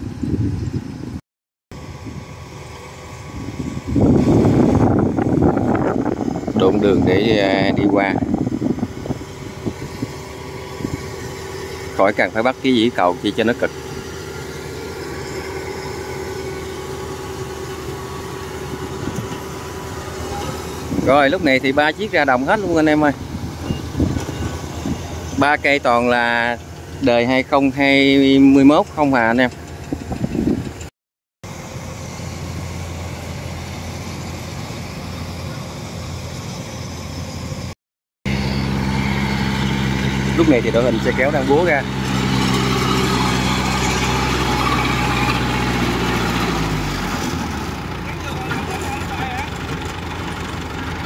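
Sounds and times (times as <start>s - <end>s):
combine harvester running: 0.0s - 51.0s.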